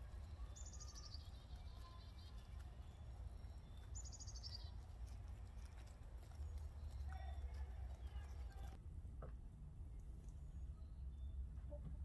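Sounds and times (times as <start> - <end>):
songbird trill: 0.0 - 8.8, 9.9 - 12.0.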